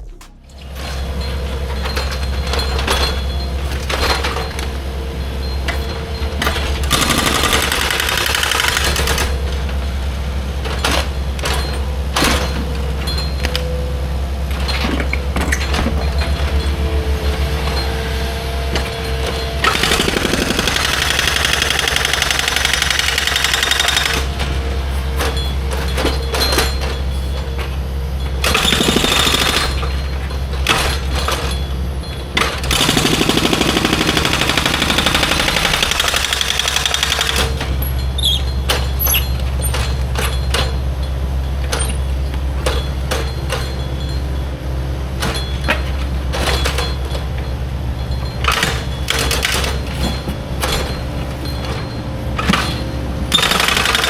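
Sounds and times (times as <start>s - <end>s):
heavy machinery engine drone: 0.0s - 54.0s.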